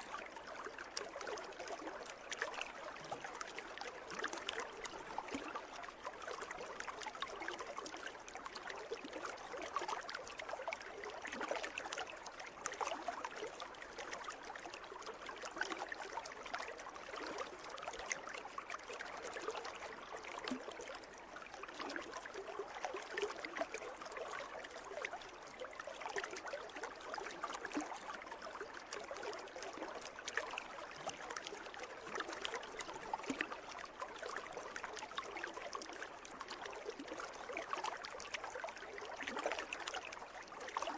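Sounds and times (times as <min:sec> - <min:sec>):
pool water trickling and lapping: 0:00.0 - 0:40.9.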